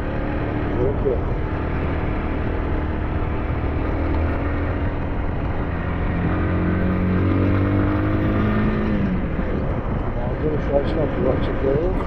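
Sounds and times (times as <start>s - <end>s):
road noise: 0.0s - 12.0s
wind noise: 0.0s - 12.0s.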